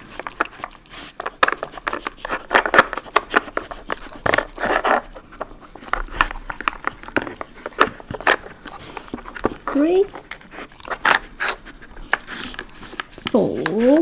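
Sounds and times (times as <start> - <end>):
dog sniffing: 0.0 - 14.0.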